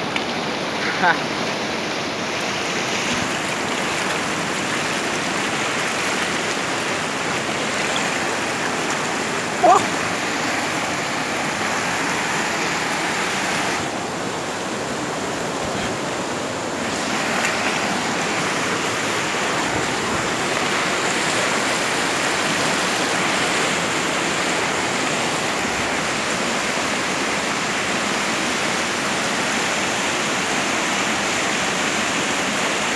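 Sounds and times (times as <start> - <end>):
river rapids rushing over rocks: 0.0 - 32.9.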